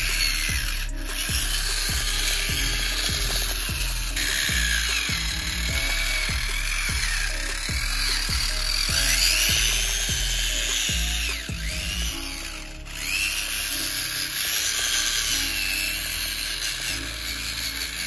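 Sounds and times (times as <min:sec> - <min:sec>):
background music: 0:00.0 - 0:18.0
small electric motor whine: 0:00.0 - 0:18.0.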